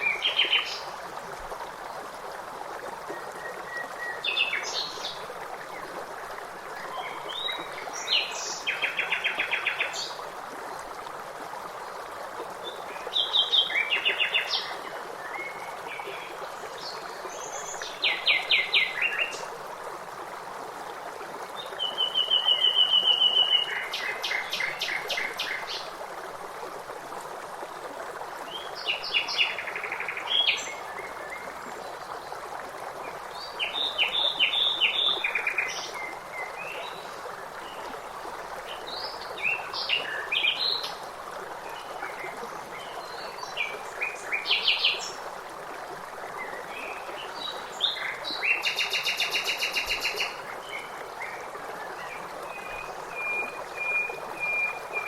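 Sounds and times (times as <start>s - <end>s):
running stream rushing: 0.0s - 55.0s.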